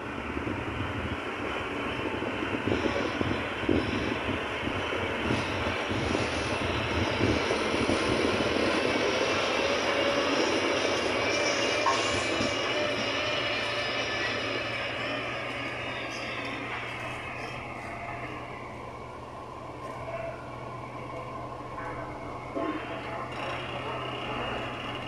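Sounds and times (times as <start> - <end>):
grader diesel engine running: 0.0 - 25.0.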